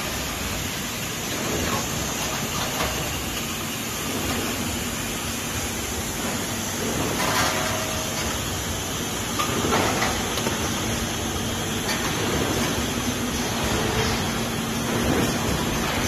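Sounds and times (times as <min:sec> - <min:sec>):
blow moulding machine running: 0:00.0 - 0:16.0.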